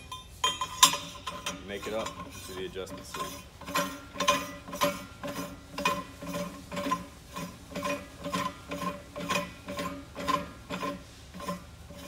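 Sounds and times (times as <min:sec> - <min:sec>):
faint metallic ring: 0:00.0 - 0:12.0
metal threads scraping: 0:00.0 - 0:12.0.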